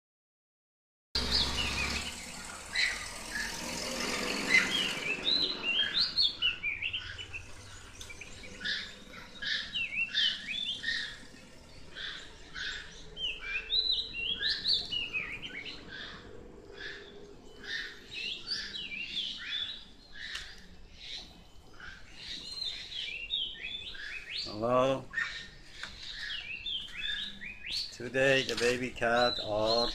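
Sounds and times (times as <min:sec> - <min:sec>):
birds chirping and singing: 0:01.2 - 0:29.9.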